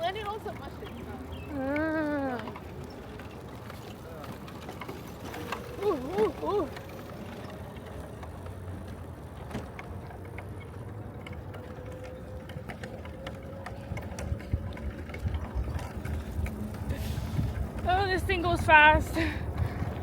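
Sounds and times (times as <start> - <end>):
faint motor whine: 0.0 - 20.0
wind and tyres rumbling: 0.0 - 20.0.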